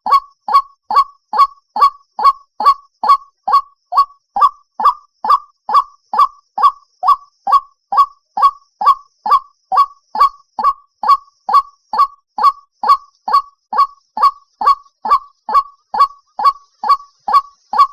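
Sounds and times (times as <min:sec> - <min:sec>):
waterhen calling: 0:00.0 - 0:17.9.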